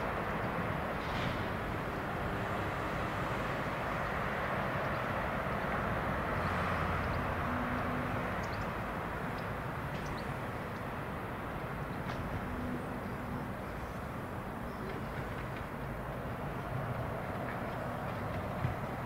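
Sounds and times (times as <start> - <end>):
distant train wheels rumbling: 0.0 - 19.0.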